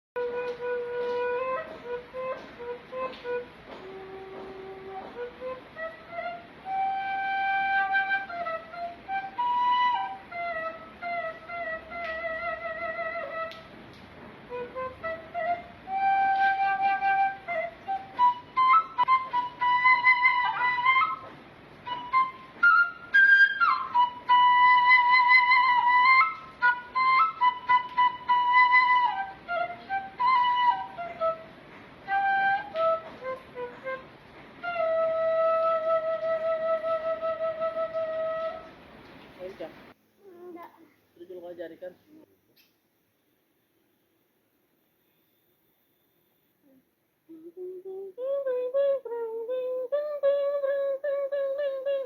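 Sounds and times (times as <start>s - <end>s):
bamboo flute melody: 0.2s - 39.0s, 47.3s - 52.0s.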